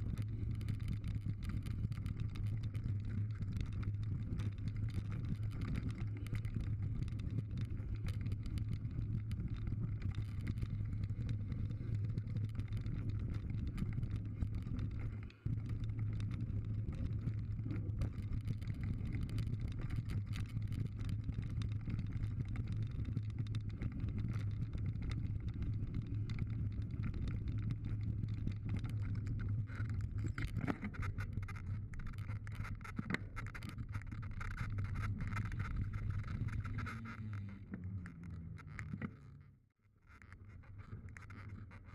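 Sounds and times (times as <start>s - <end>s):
bike rattling: 0.0s - 37.5s.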